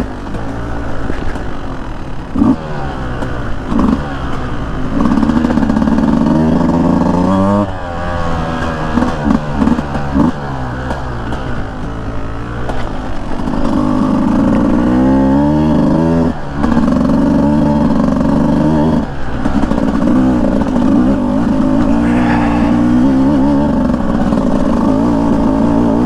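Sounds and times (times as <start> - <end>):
dirt bike engine revving: 2.3 - 26.0.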